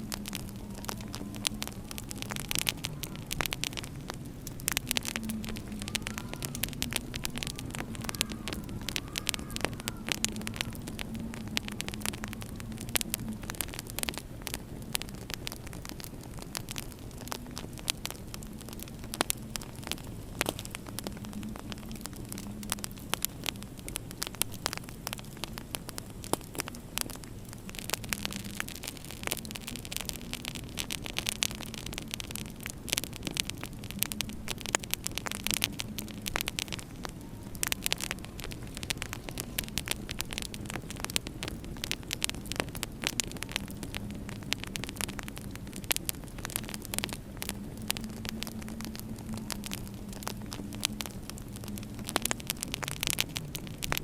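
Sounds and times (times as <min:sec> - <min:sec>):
steady low hum: 0:00.0 - 0:52.1
wood fire crackling: 0:00.0 - 0:54.0.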